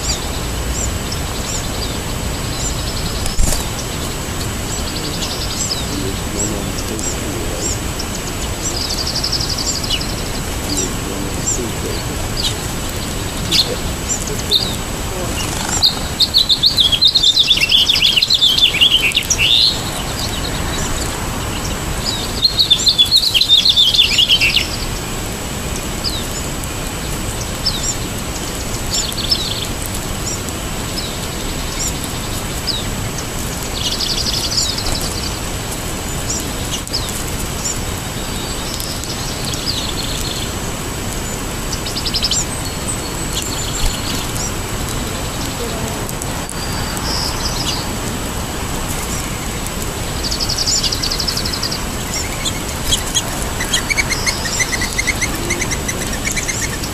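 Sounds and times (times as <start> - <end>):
songbird song falling in pitch: 0.0 - 25.1, 36.2 - 56.9
background hiss: 0.0 - 56.9
songbird chip notes: 0.0 - 56.9.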